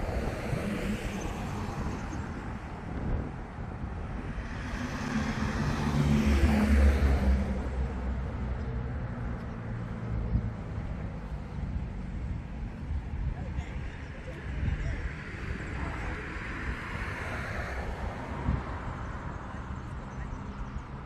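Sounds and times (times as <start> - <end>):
car passing by: 0.0 - 3.3, 4.0 - 12.0, 13.8 - 21.0.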